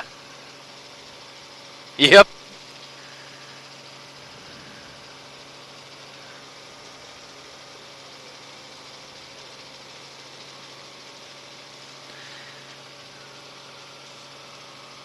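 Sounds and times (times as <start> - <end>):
constant low hum: 0.0 - 15.0
helicopter drone from inside cabin: 0.0 - 15.0.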